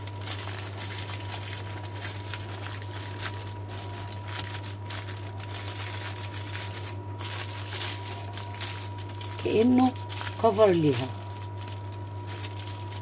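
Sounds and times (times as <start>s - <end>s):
aluminium foil crinkling: 0.0s - 13.0s
low electrical hum: 0.0s - 13.0s.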